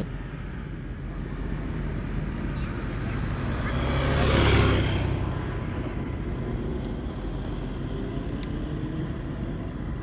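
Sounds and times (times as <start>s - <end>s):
low outdoor rumble: 0.0s - 10.0s
vehicle passing by: 0.0s - 10.0s.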